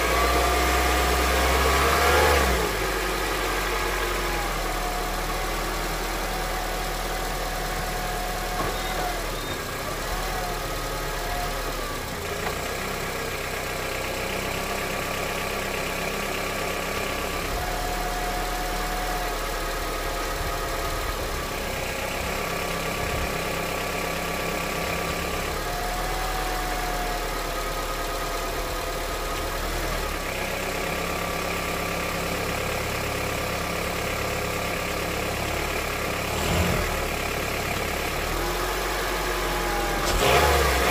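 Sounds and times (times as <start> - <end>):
car engine idling with knock: 3.0 - 39.2.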